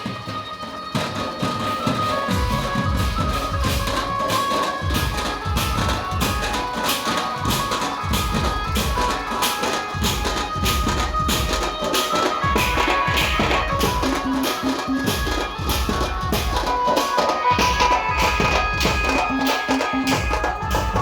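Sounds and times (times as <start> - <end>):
fast dense drumming: 1.5 - 21.0
held melody line: 1.8 - 21.0.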